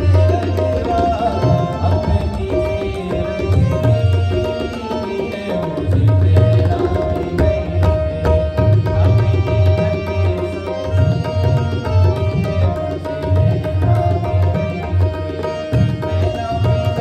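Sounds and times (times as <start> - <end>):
harmonium held notes: 0.0 - 17.0
tabla playing fast rhythm: 0.0 - 17.0.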